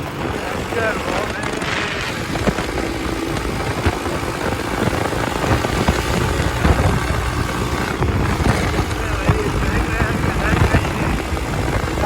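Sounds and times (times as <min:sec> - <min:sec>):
motorcycle running: 0:00.0 - 0:12.0.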